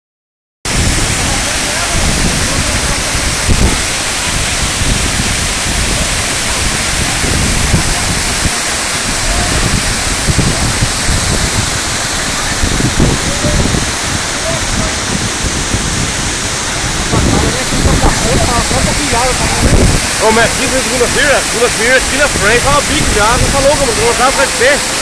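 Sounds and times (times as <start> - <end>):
waterfall rushing: 0.7 - 25.0.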